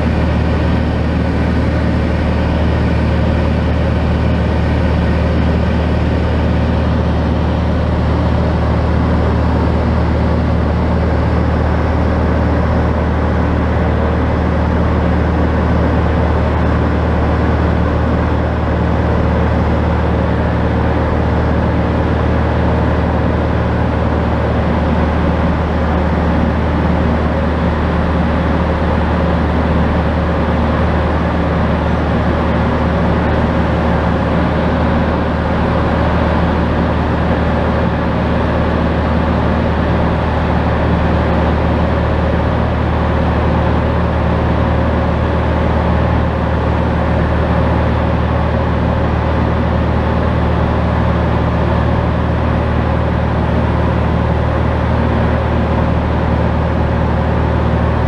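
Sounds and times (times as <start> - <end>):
aircraft propeller engine drone: 0.0 - 58.0.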